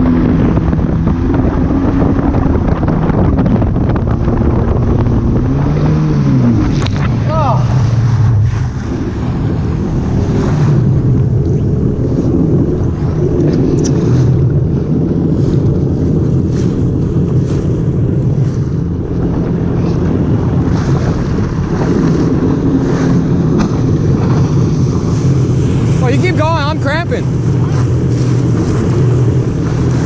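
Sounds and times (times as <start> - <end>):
jet ski engine drone: 0.0 - 30.0
wind buffeting microphone: 0.0 - 30.0.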